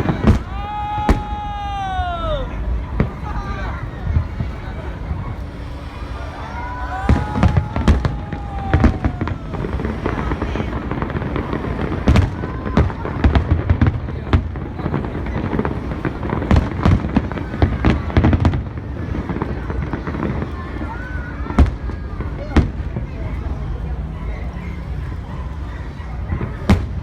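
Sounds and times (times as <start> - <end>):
fireworks bangs and cracks: 0.0 - 27.0.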